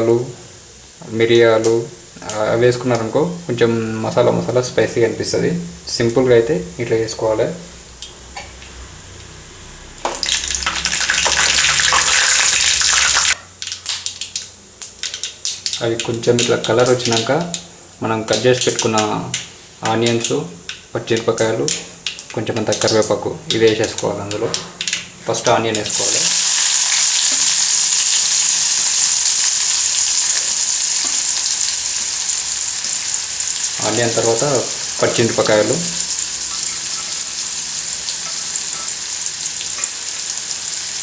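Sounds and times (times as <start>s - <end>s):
spices sizzling in hot oil: 0.0s - 41.0s.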